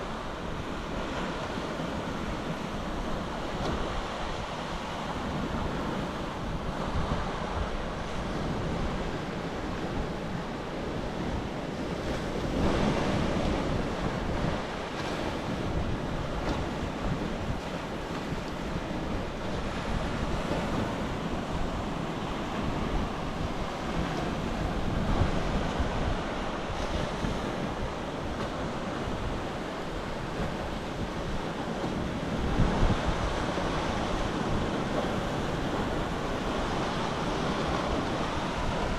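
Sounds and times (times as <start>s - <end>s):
sea surf washing on shore: 0.0s - 38.9s
wind buffeting microphone: 0.0s - 38.9s.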